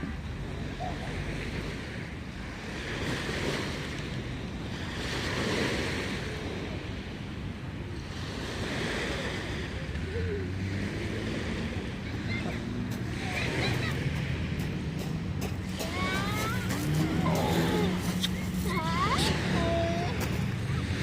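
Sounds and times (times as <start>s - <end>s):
sea waves breaking on shore: 0.0s - 21.0s.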